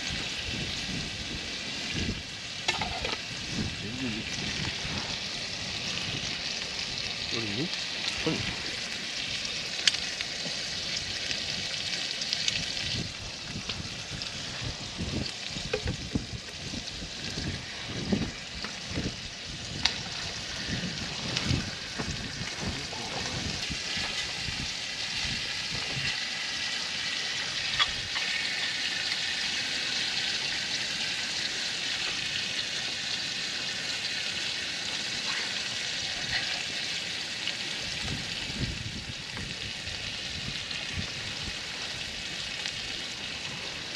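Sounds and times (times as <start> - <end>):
meat sizzling on a grill: 0.0 - 43.9.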